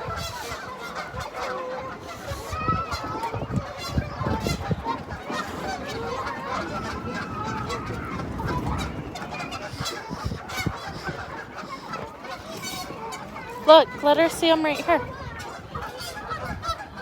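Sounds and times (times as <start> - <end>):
flock of geese honking: 0.0 - 17.0.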